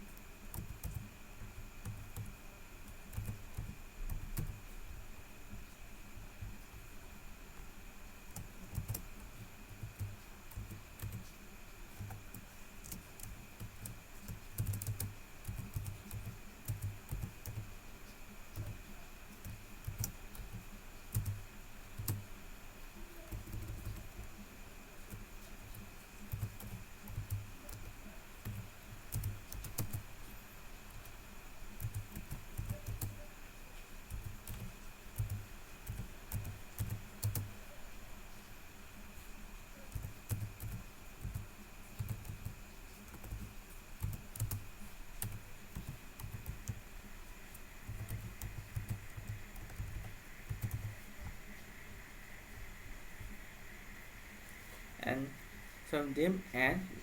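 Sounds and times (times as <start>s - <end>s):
faint high whine: 0.0s - 57.0s.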